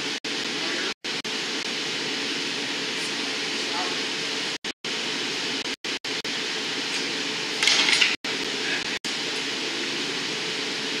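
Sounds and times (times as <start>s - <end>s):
gas burners roaring: 0.0s - 11.0s
ventilation running: 0.0s - 11.0s.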